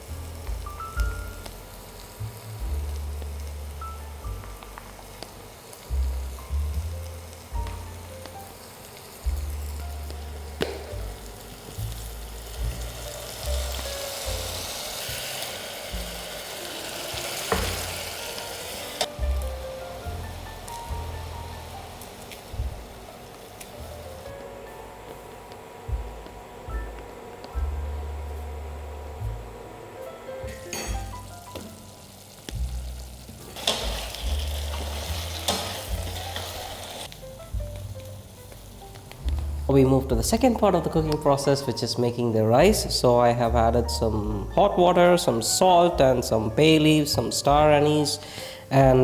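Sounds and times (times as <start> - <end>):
background music: 0.0 - 49.0
food sizzling in a pan: 0.0 - 49.0.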